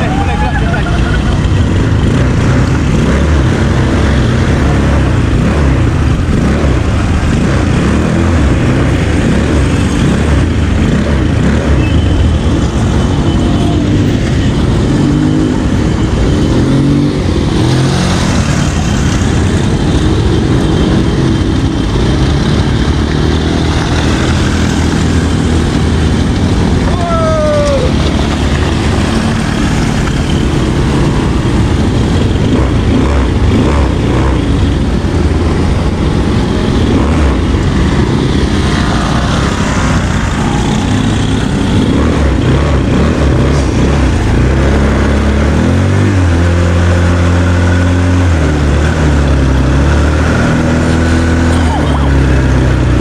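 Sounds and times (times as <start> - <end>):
atv engine revving: 0.5 - 53.0.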